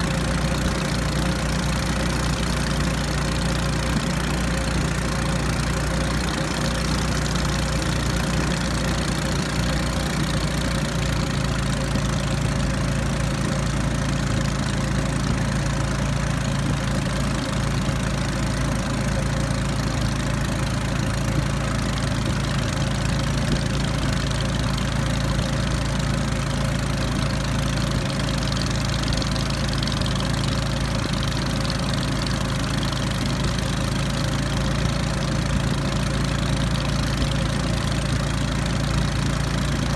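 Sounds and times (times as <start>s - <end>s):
noisy rattle: 0.0s - 39.9s
small engine running: 0.0s - 39.9s.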